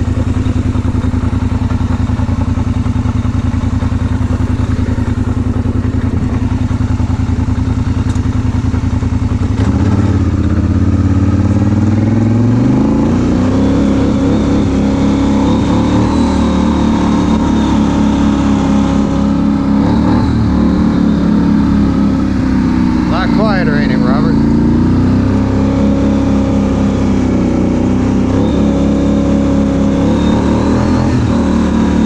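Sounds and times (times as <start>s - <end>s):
atv engine idling and revving: 0.0s - 32.0s.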